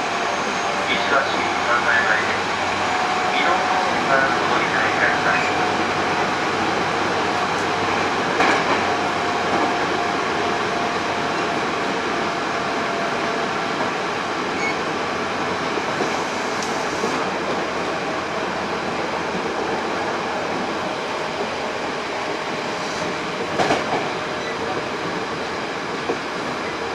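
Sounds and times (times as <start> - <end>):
train wheel and rail noise: 0.0 - 26.9.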